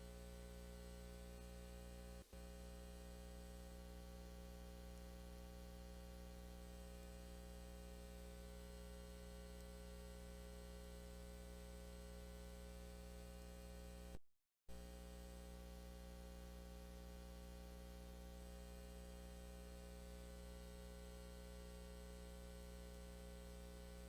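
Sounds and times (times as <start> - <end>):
low electrical hum: 0.0 - 14.2, 14.8 - 24.0.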